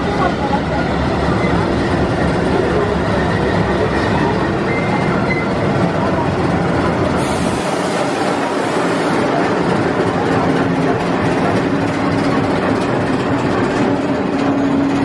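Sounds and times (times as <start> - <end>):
diesel locomotive engine rumbling: 0.0 - 15.0
wheels rolling on rail: 0.0 - 15.0.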